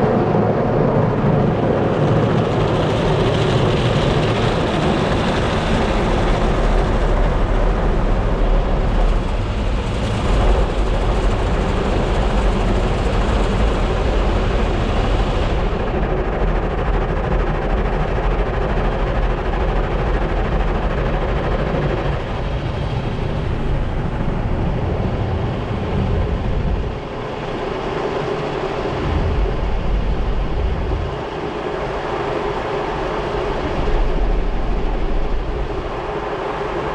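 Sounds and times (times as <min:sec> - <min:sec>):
deep machinery rumble: 0:00.0 - 0:36.1.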